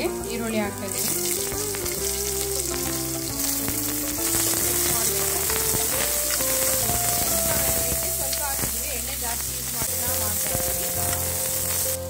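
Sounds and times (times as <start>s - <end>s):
onions sizzling in oil: 0.0s - 12.0s
slow instrumental melody: 0.0s - 12.0s.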